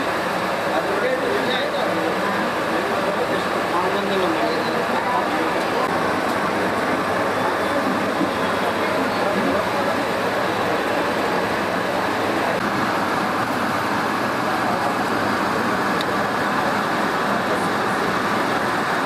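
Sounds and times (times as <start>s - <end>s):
exhibition hall din: 0.0s - 19.0s.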